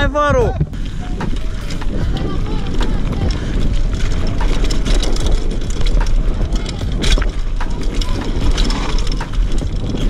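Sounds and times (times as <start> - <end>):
bike rattles and knocks: 0.0 - 10.0
wind rumbling on microphone: 0.0 - 10.0.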